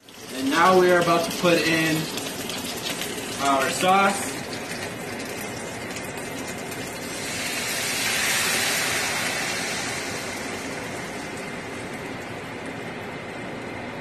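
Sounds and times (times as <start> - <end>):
sauce sizzling in a wok: 0.0 - 13.2.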